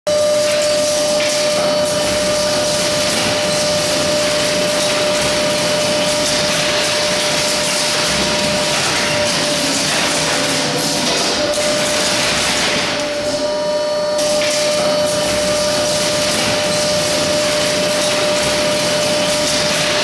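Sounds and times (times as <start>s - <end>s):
baler press machine whining: 0.1s - 20.0s.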